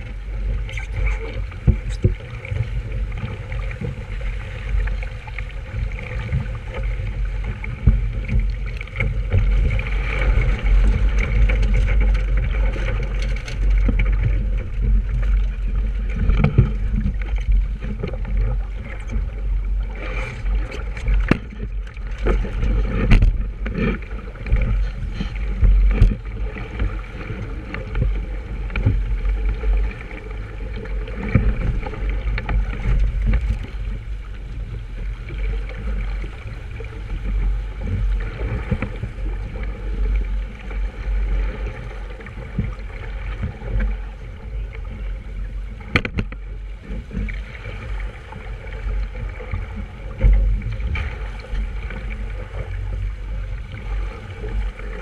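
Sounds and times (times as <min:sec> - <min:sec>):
water sloshing along hull: 0:00.0 - 0:55.0
wind rumbling over microphone: 0:00.0 - 0:55.0.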